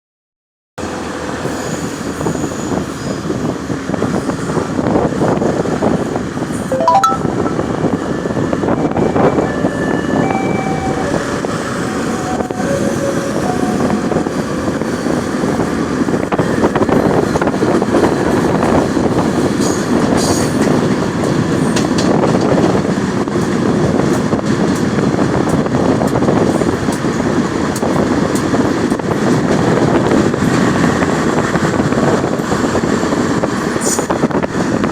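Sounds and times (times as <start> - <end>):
train running on tracks: 0.8 - 34.9.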